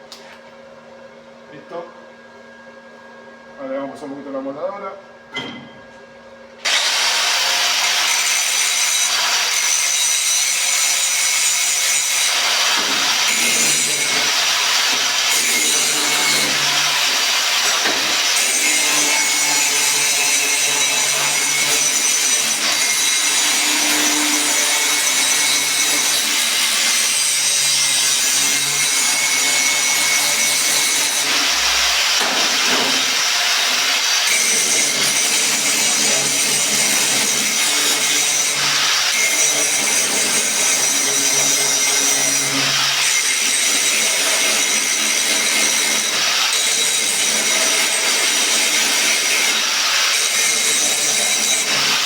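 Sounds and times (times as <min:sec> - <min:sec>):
angle grinder grinding metal: 0:06.6 - 0:52.0.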